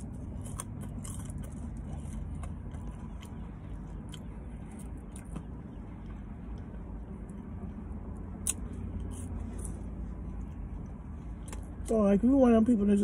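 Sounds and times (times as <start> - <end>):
person chewing fries: 0.0 - 7.5, 8.2 - 11.9
car interior hum: 0.0 - 13.0.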